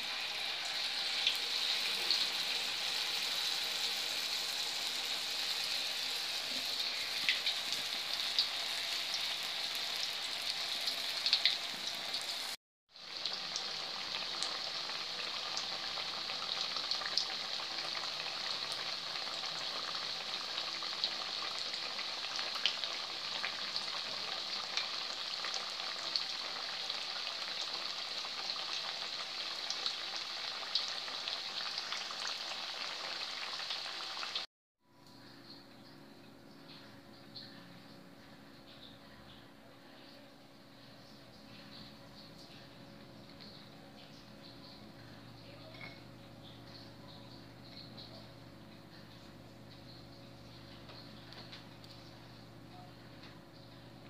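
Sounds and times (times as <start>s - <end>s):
deep-frying sizzle with pops: 0.0s - 34.5s, 41.7s - 54.0s.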